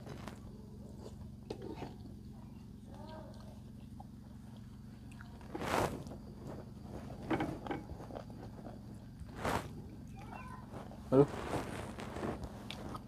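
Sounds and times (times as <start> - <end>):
people eating and chewing: 0.0 - 13.0
steady low hum: 0.0 - 13.0.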